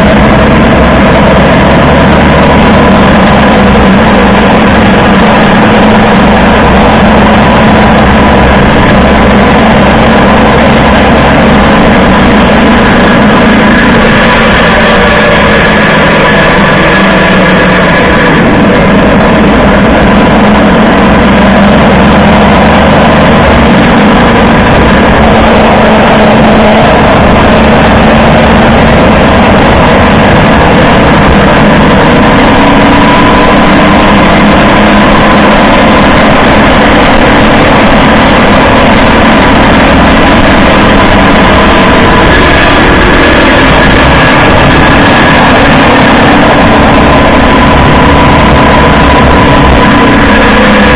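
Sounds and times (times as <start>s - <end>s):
tyre road noise: 0.0s - 50.9s.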